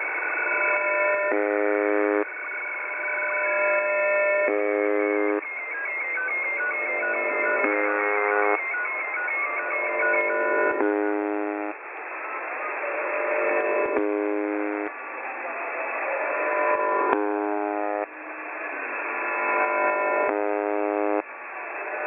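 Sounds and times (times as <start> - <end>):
buzzing radio tone: 0.0 - 22.0
crackling radio static: 0.0 - 22.0.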